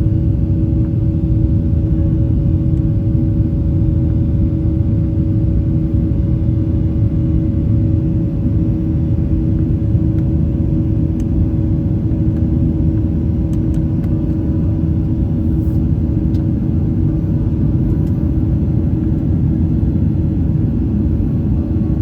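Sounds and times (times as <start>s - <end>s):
airliner cabin engine rumble: 0.0s - 22.0s
steady hum: 0.0s - 22.0s.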